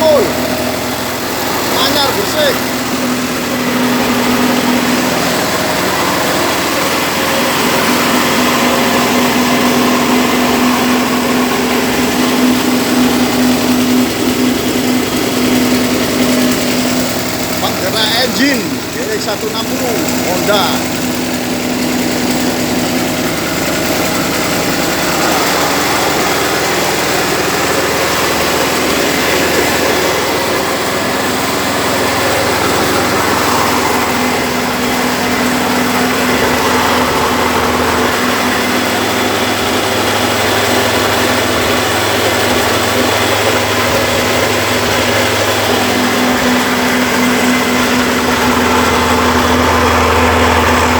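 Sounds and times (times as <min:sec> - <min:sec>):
machine rushing mechanical noise: 0:00.0 - 0:50.9
petrol engine running under load: 0:00.0 - 0:50.9.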